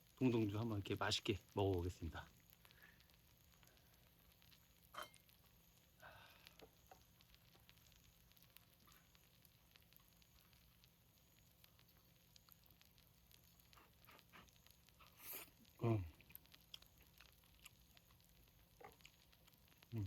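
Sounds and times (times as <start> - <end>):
pancake sizzling: 0.0 - 20.0.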